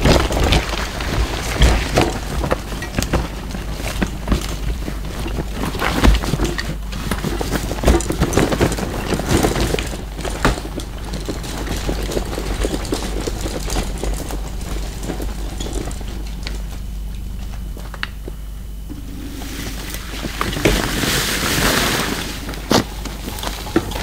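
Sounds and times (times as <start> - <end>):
rain drops pattering: 0.0 - 24.0.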